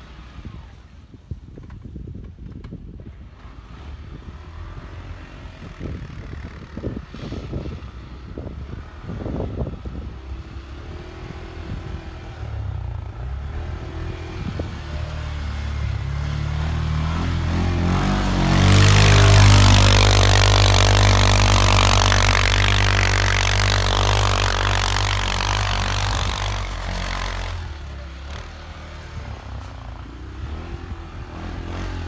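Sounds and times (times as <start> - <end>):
quad bike engine revving: 3.4 - 32.0.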